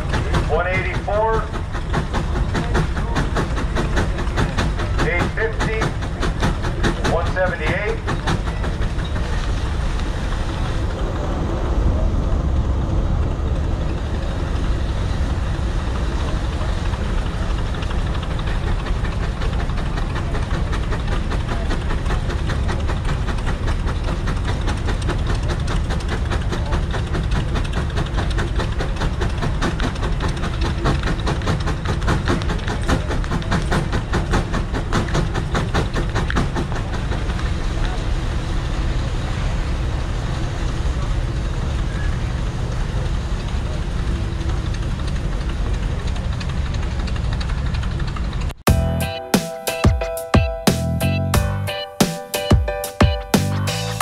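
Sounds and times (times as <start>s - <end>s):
drive belt running: 0.0s - 11.2s, 13.5s - 54.0s
steam engine exhaust beating: 0.0s - 54.0s.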